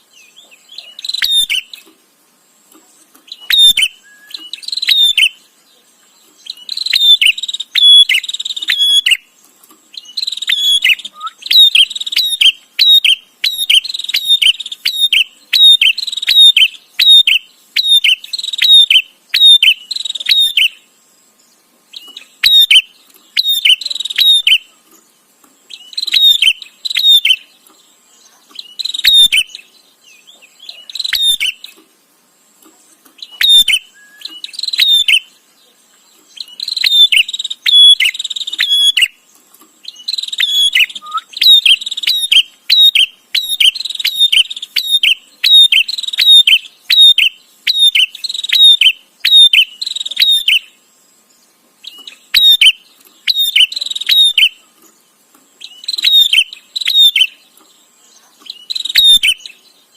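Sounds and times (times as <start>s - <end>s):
bird chirping rapidly: 0.0s - 1.9s, 2.9s - 20.9s, 21.5s - 31.8s, 33.1s - 50.9s, 51.8s - 59.9s.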